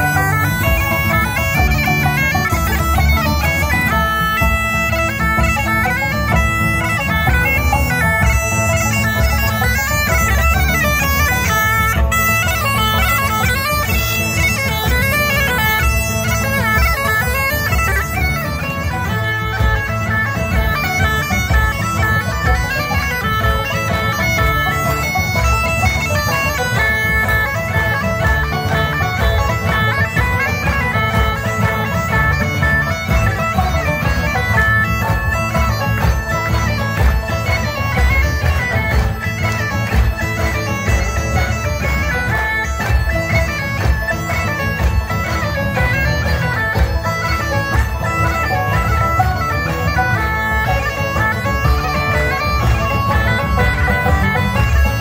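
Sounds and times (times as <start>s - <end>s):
bagpipes playing: 0.0s - 55.0s.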